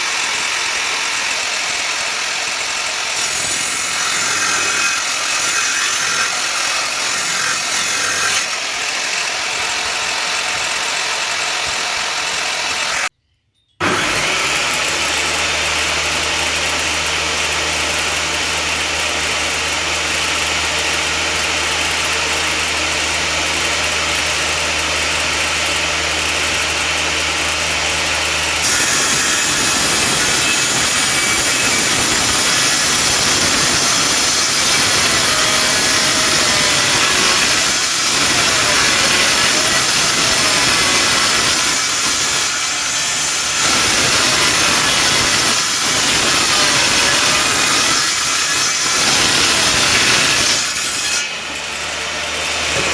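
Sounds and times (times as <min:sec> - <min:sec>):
power tools cutting wood: 0:00.0 - 0:13.1, 0:13.8 - 0:52.9.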